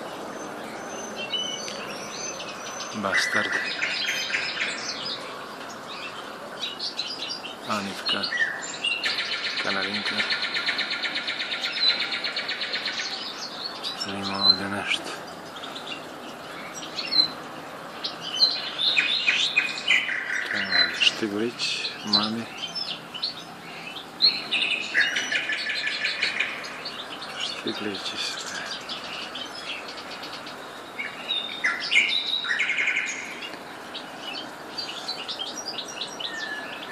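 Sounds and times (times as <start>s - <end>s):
songbirds chirping and twittering: 0.0s - 36.9s.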